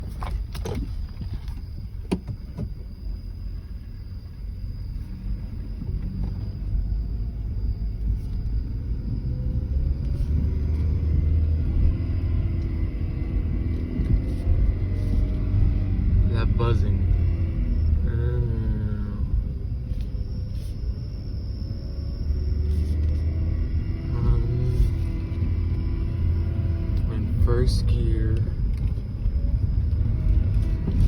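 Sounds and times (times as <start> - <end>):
faint thin whine: 0.0 - 31.0
low humming drone: 0.0 - 31.0.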